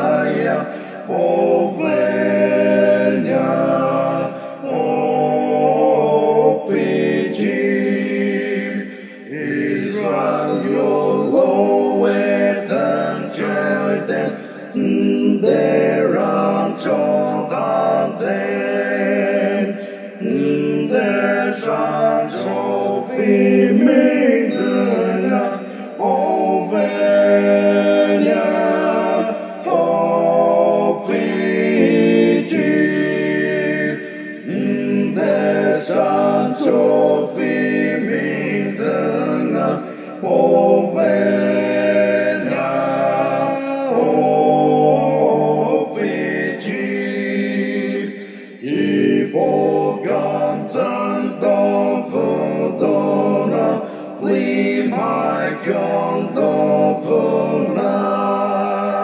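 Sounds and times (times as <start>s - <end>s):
voices singing a hymn: 0.0s - 59.0s.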